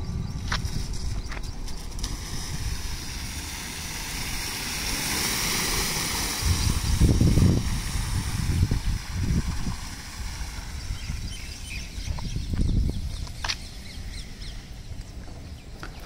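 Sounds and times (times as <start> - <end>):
tyres splashing through water: 0.6 - 13.8.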